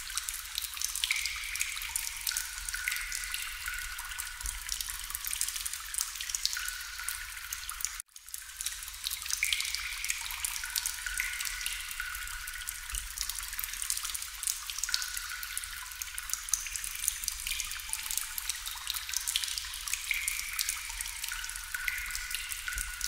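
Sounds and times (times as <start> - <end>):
water dripping into water: 0.0 - 23.0.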